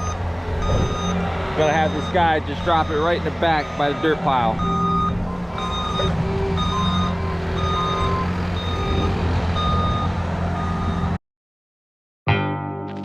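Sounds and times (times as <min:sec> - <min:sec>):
diesel engine humming: 0:00.0 - 0:11.2
truck backup alarm beeping: 0:00.0 - 0:11.2.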